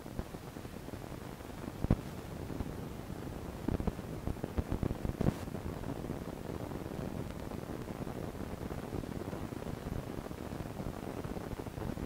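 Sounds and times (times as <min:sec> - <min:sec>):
microphone hiss and rumble: 0:00.0 - 0:12.0.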